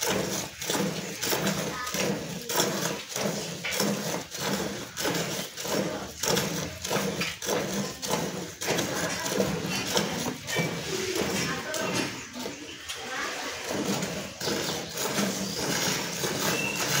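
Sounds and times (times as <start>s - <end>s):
milk squirting into metal pail: 0.0s - 17.0s.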